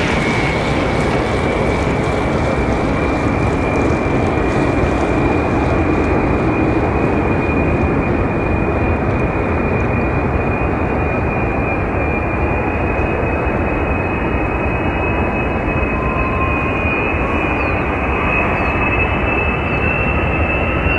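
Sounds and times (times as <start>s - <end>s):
jet engines running: 0.0s - 20.9s.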